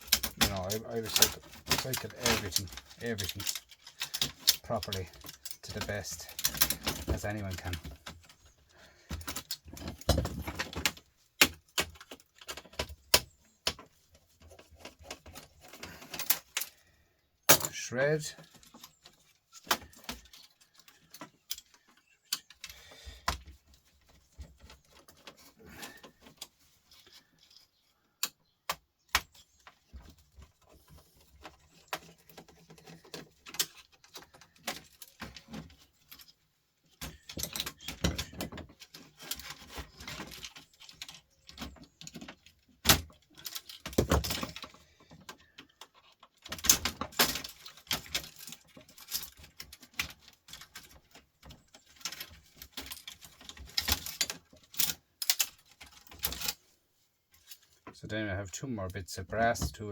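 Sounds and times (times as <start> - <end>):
small parts and tools clinking: 0.0 - 56.7.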